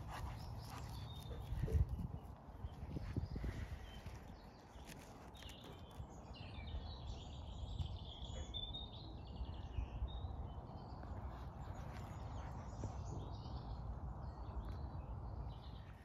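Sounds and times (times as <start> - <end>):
songbirds chirping and warbling: 0.0 - 16.0.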